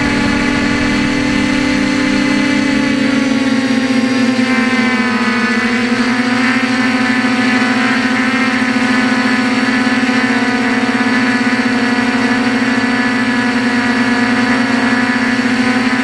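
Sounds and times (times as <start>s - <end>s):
drone motors and propellers buzzing: 0.0s - 16.0s.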